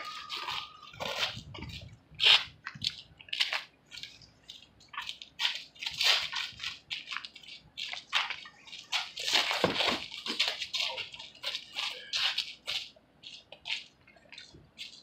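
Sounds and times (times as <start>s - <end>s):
footwork scuffs: 0.0s - 15.0s.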